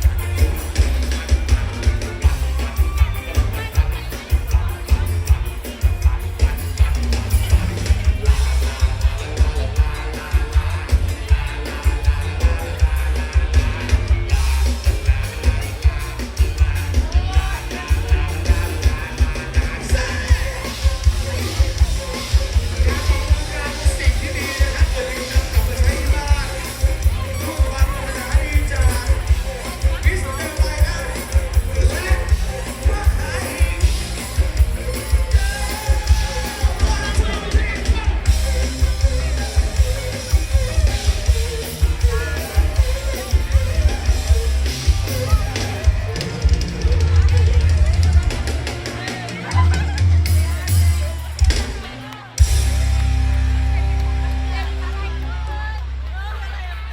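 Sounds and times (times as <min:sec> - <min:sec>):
heavy bass drum beat: 0:00.0 - 0:56.9
live band music with singing: 0:00.0 - 0:56.9.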